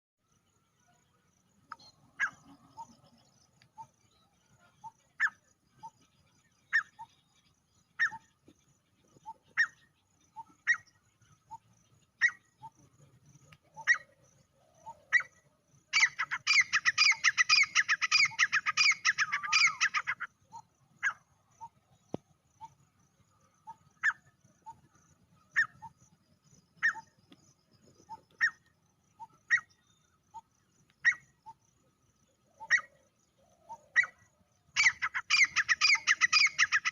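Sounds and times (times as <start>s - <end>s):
francolin calling: 1.6s - 36.9s.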